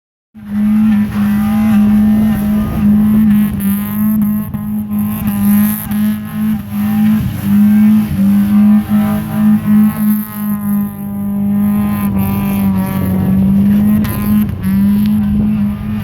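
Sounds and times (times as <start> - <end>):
car engine revving: 0.4 - 16.0.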